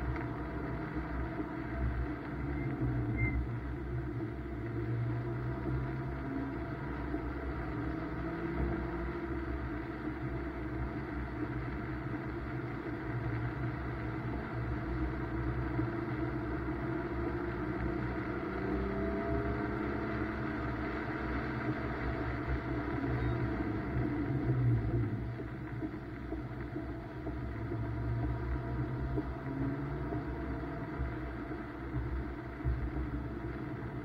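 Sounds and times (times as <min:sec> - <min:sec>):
car engine pulling steadily: 0:00.0 - 0:34.0
road and tyre noise: 0:00.0 - 0:34.0.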